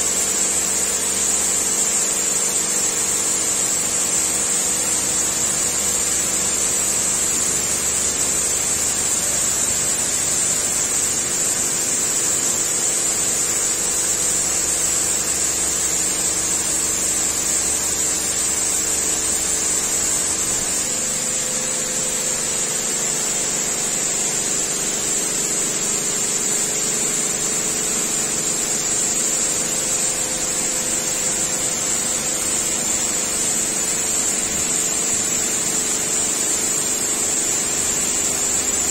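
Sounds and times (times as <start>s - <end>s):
pump humming: 0.0s - 38.9s.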